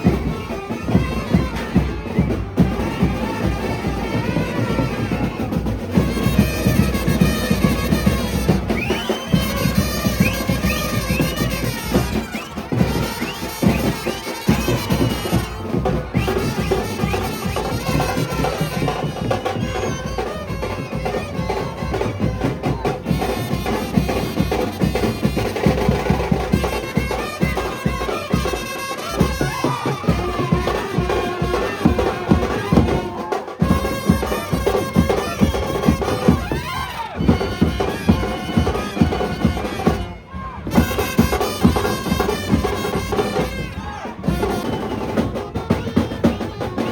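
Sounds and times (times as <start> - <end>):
brass band horns: 0.0 - 46.9
steady dense drum beat: 0.0 - 46.9.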